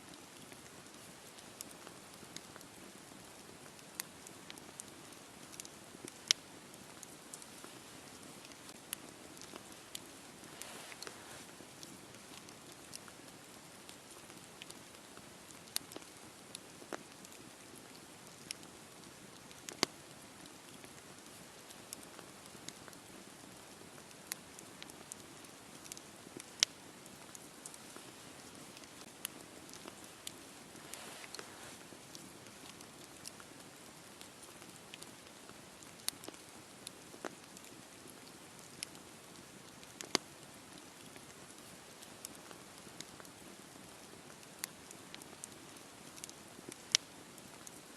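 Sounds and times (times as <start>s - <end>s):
campfire crackling and popping: 0.1s - 47.9s.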